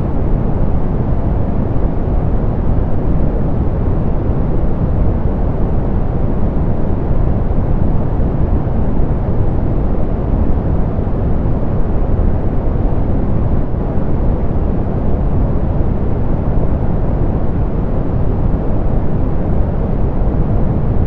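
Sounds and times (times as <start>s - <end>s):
soft pink noise: 0.0s - 21.0s.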